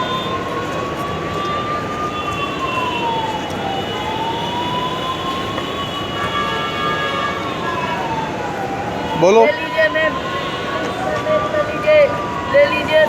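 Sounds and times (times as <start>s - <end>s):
wailing siren-like tone: 0.0s - 13.0s.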